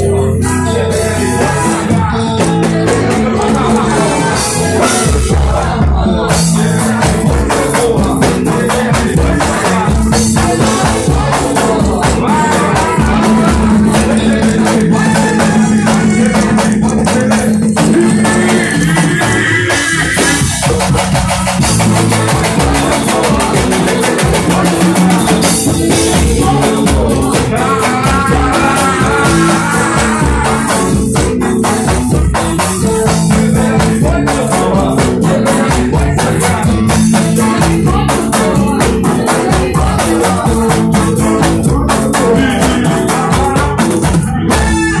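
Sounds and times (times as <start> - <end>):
electric guitar: 0.0 - 45.0
live band with drums and percussion: 0.0 - 45.0
person singing: 0.0 - 45.0.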